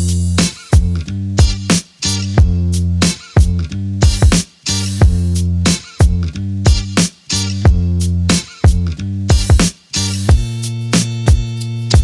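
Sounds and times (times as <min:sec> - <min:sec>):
funky background music: 0:00.0 - 0:12.0.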